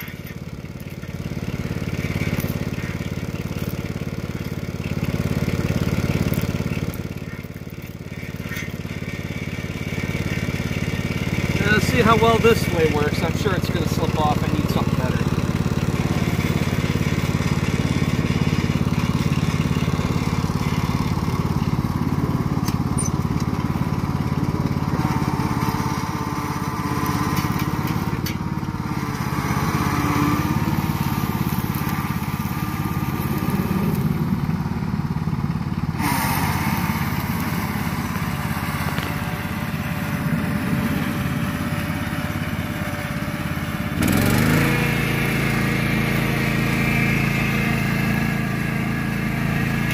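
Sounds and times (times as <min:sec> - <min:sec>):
lawn tractor engine running: 0:00.0 - 0:49.9.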